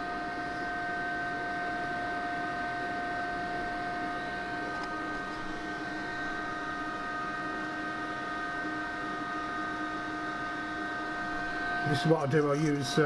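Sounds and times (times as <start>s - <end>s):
induction heater humming: 0.0s - 13.0s.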